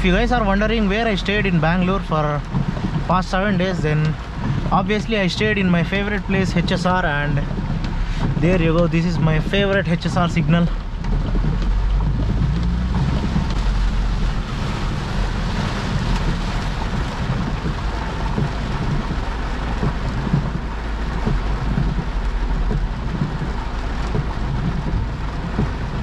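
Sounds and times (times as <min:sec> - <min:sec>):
heavy rain on car roof: 0:00.0 - 0:26.0.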